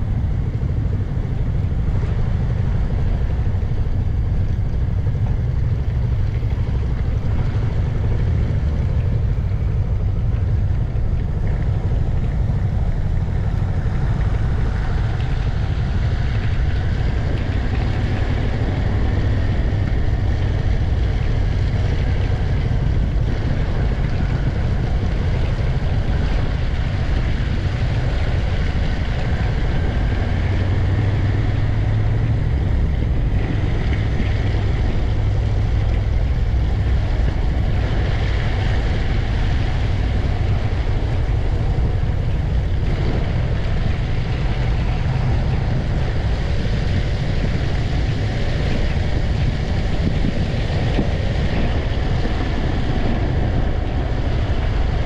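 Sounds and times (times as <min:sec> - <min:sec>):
faint whine: 0:00.0 - 0:55.0
wind rush: 0:00.0 - 0:55.0.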